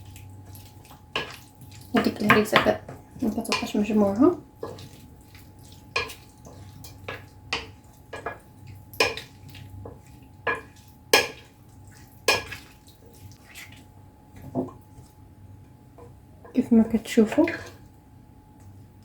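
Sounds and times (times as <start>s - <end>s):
olives stirred in a bowl: 0.0s - 15.4s, 16.0s - 18.0s.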